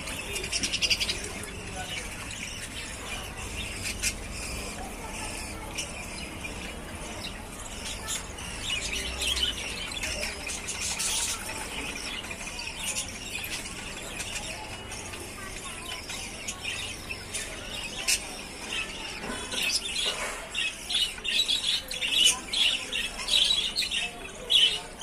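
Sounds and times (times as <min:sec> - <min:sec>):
budgerigars chattering and warbling: 0:00.0 - 0:25.0.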